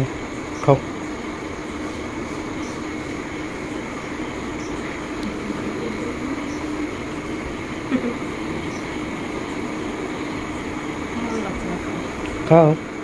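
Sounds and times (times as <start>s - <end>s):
faint low hum: 0.0s - 13.0s
steady mechanical whir: 0.0s - 13.0s.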